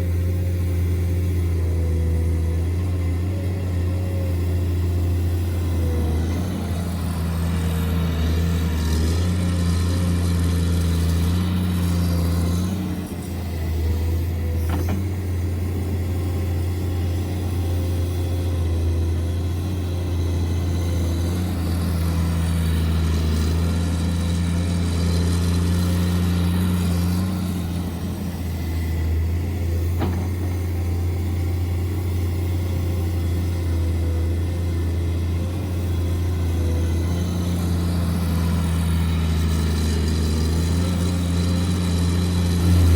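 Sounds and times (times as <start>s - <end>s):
model vehicle engine hum: 0.0s - 42.9s.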